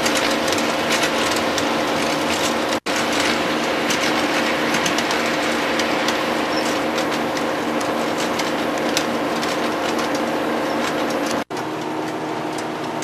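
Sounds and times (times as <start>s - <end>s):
low hum: 0.0s - 11.5s
model train wheels clicking on rail joints: 0.0s - 13.0s.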